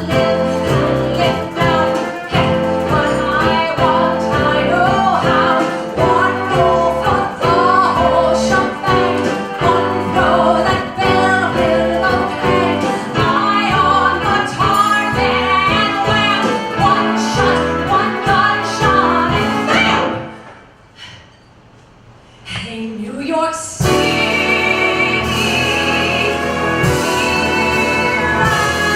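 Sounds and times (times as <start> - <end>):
woman singing: 0.0 - 20.2, 22.5 - 28.9
instrumental accompaniment: 0.0 - 20.5, 23.8 - 28.9.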